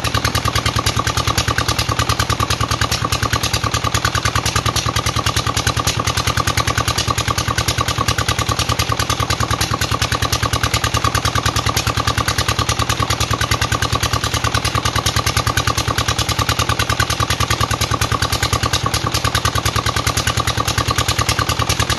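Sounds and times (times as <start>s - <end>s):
engine water pump running: 0.0s - 21.9s.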